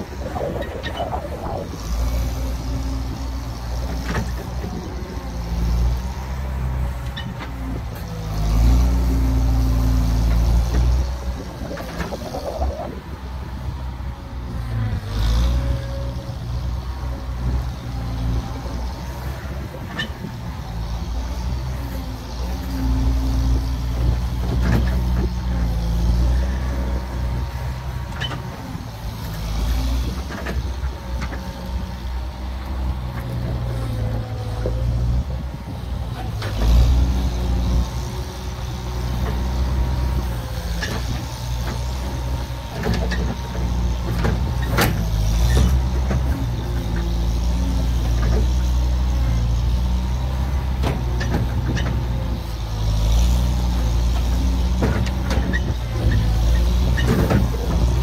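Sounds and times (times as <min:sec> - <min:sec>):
loader engine revving: 0:00.0 - 0:58.0.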